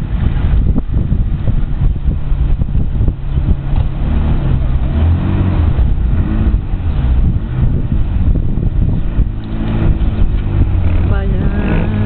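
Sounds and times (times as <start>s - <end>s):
sports car engine revving: 0.1s - 12.0s.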